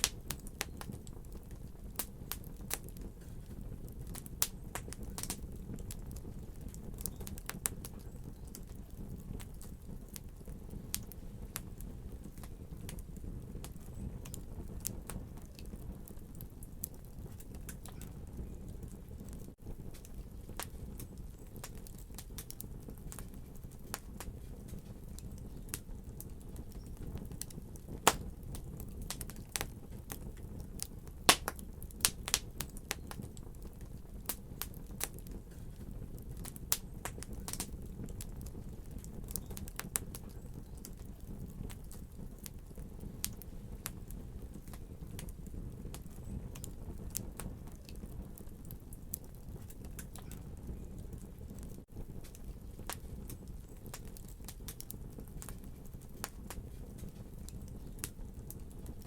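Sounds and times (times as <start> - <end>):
fire crackling: 0.0 - 59.0
low rumble of flames: 0.0 - 59.0.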